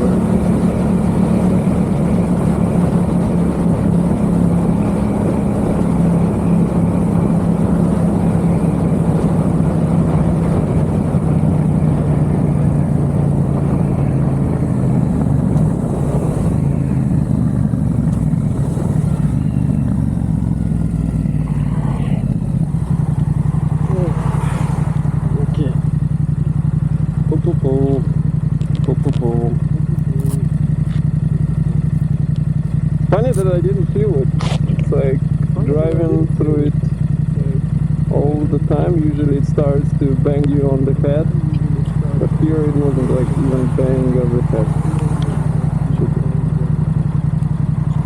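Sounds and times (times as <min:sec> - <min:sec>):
motorcycle engine running: 0:00.0 - 0:48.0
wind and road noise: 0:00.0 - 0:48.0.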